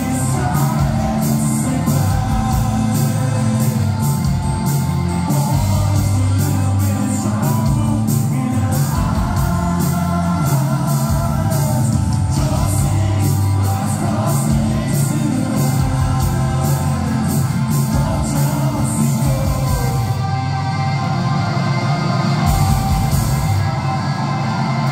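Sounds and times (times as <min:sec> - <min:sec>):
steady drumbeat: 0:00.0 - 0:20.4, 0:21.7 - 0:24.9
live rock band playing: 0:00.0 - 0:24.9
person singing: 0:00.0 - 0:24.9.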